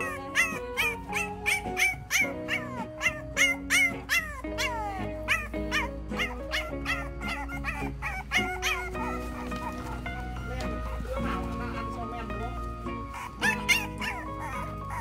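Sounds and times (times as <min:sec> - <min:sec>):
puppies yipping and whining: 0:00.0 - 0:11.8, 0:12.6 - 0:15.0
background music: 0:00.0 - 0:15.0.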